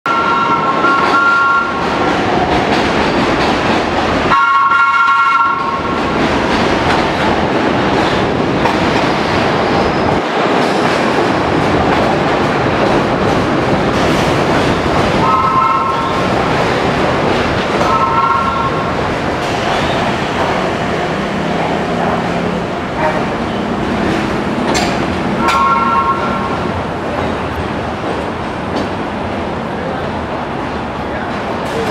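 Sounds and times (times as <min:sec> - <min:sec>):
train wheels rumbling on rails: 0:00.1 - 0:31.9.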